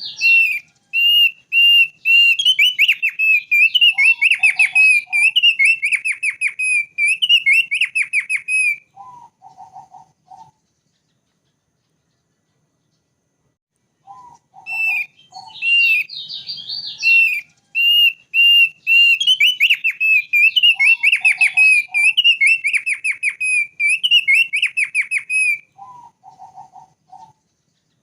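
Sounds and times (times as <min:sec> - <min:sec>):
bird singing whistled notes: 0:00.0 - 0:13.1, 0:14.0 - 0:28.0.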